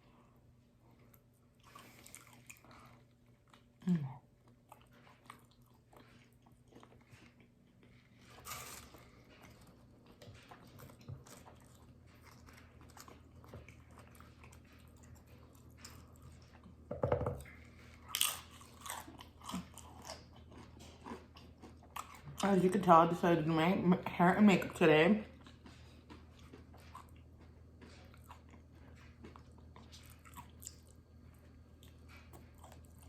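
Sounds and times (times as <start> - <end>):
biting and chewing food: 0.8 - 33.0.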